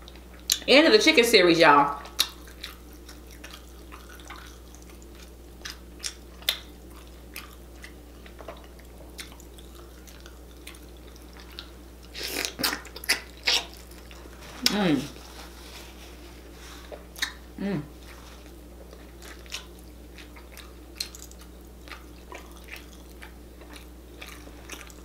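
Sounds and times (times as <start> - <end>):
chewing with mouth smacks: 2.0 - 14.8, 16.7 - 17.4, 18.0 - 25.0.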